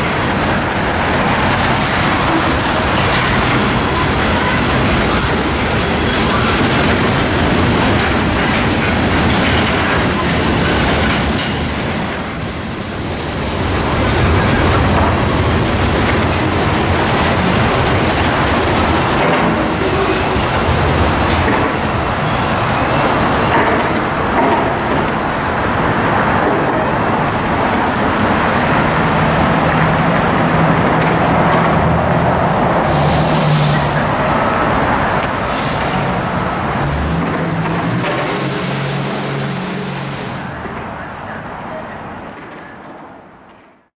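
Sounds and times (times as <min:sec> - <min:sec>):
freight train rolling: 0:00.0 - 0:43.9.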